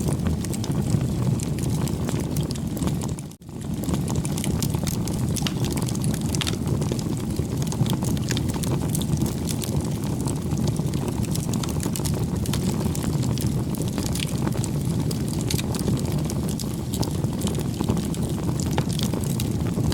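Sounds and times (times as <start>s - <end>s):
bonfire flames rumbling: 0.0s - 19.9s
fire crackling and popping: 0.0s - 19.9s.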